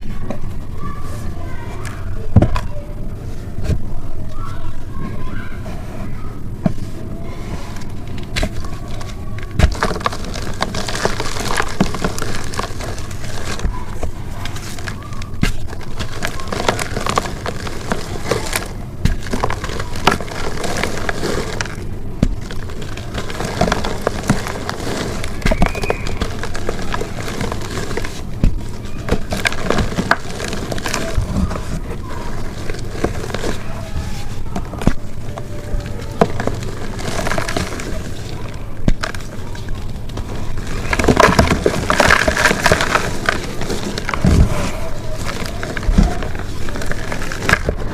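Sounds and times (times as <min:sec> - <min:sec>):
chalk crunching and crackling: 0:00.0 - 0:47.9.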